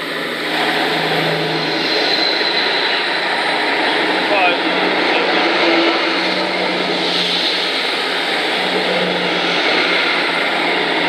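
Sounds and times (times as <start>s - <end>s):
diesel train engines humming: 0.0s - 11.0s
train wheels rumbling on rails: 0.0s - 11.0s.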